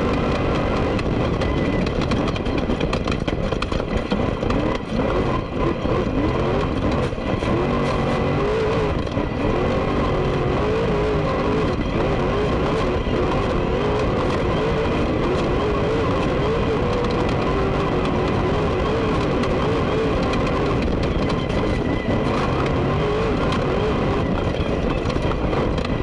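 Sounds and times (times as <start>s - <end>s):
road and chassis rattle: 0.0s - 26.0s
truck engine revving: 0.0s - 26.0s.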